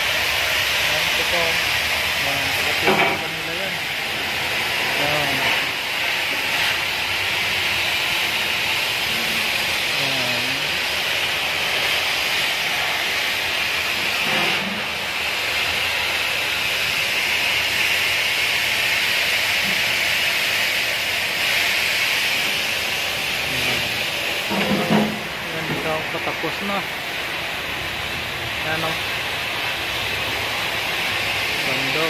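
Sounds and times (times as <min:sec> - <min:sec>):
loud steady hissing: 0:00.0 - 0:32.0.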